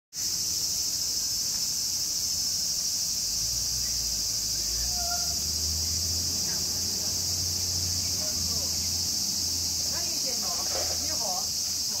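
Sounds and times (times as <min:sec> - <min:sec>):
insect chorus drone: 0:00.1 - 0:12.0.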